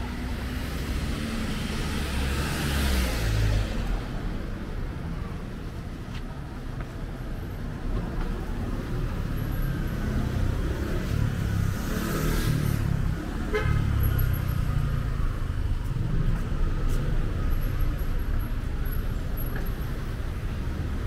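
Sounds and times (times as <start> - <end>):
rumble of cars: 0.0 - 21.0.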